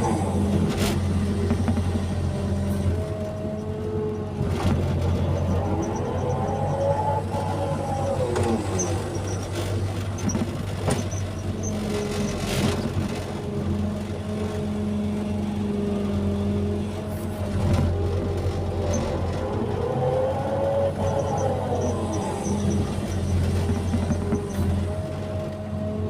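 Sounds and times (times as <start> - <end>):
excavator diesel engine running: 0.0 - 26.0
hydraulics whining: 0.0 - 26.0.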